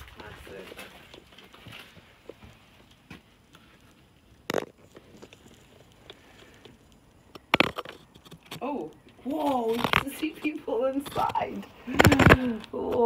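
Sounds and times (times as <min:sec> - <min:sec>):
faint handling and rustling: 0:00.0 - 0:13.0.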